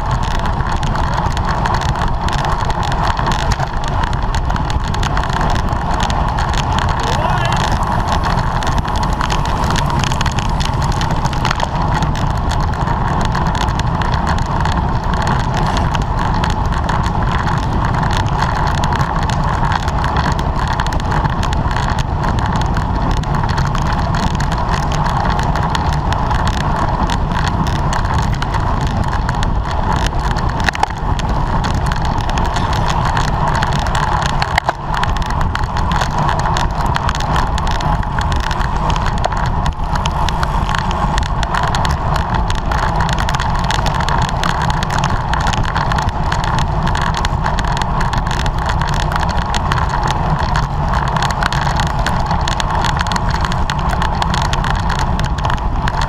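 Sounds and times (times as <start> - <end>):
constant hum: 0.0 - 56.0
wind and road noise: 0.0 - 56.0.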